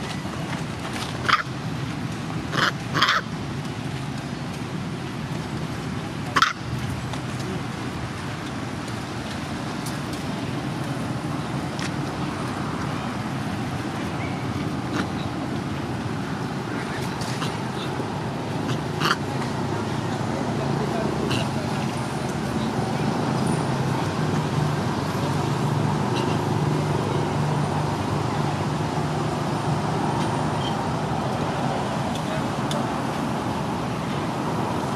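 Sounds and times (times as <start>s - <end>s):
low hum of traffic: 0.0s - 34.9s.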